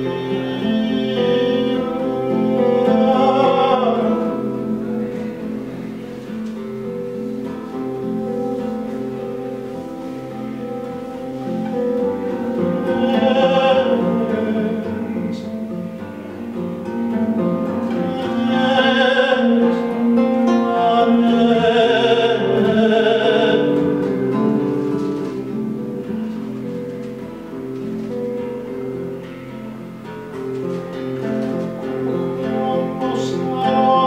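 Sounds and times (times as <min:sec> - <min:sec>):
person singing with vibrato: 0:00.0 - 0:06.8, 0:07.4 - 0:26.5, 0:31.2 - 0:34.0
plucked acoustic guitar: 0:00.0 - 0:34.0.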